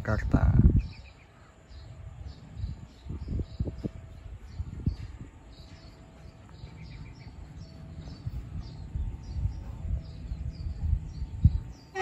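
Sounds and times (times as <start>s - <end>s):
low uneven rumble: 0.0s - 12.0s
small birds chirping: 0.0s - 12.0s
bird trill: 0.6s - 12.0s.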